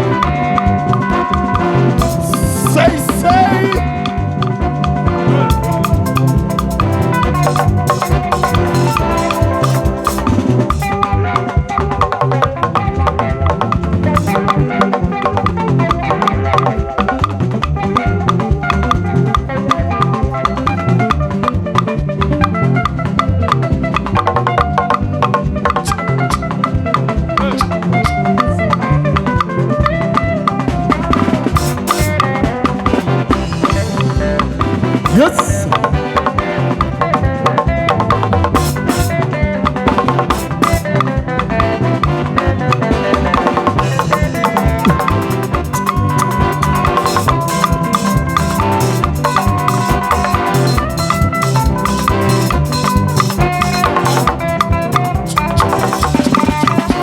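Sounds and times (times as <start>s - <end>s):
drum kit and hand percussion: 0.0s - 57.0s
live instrumental band: 0.0s - 57.0s.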